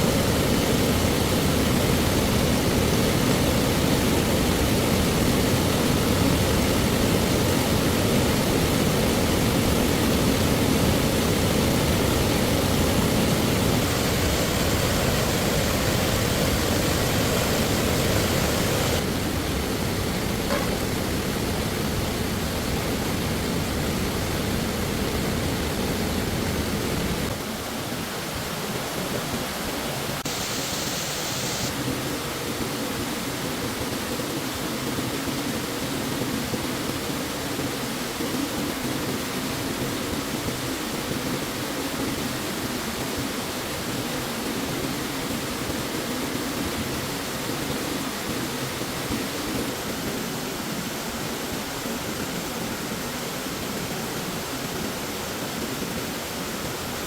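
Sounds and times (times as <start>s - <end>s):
flowing stream rushing: 0.0s - 57.0s.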